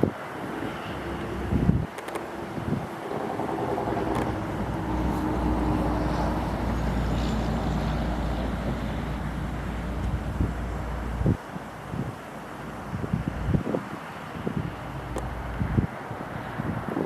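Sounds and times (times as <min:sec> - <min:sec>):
river water rushing: 0:00.0 - 0:17.0
wind gusting against microphone: 0:00.0 - 0:17.0.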